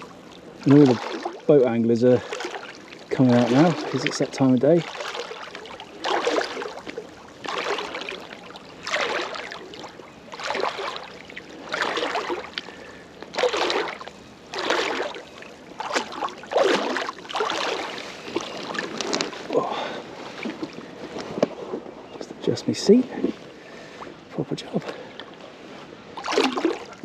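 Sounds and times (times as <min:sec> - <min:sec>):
water sloshing and splashing: 0:00.0 - 0:27.0.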